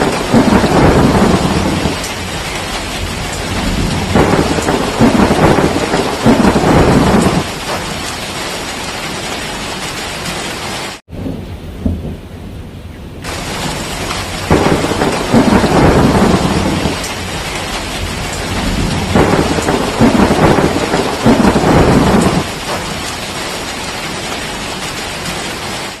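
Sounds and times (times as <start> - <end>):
rolling thunder: 0.0 - 8.4, 11.1 - 25.8
heavy rain: 0.0 - 26.0.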